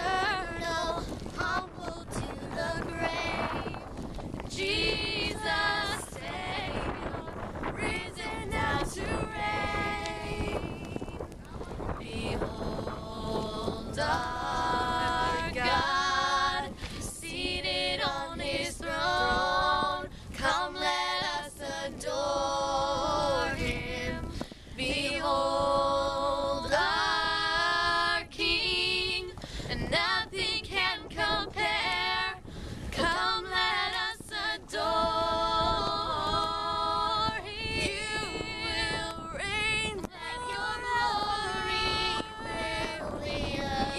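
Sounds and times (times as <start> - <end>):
girls singing a hymn in harmony: 0.0 - 43.9
wind rumble on microphone: 0.0 - 43.9.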